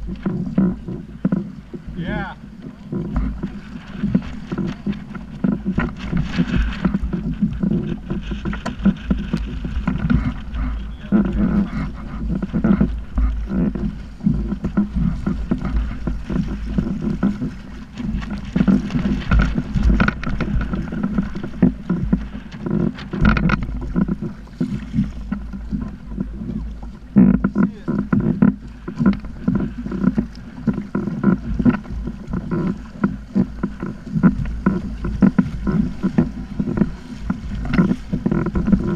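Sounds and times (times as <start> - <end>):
water splashing against kayak hull: 0.0 - 38.9
wind rumbling on microphone: 0.0 - 38.9.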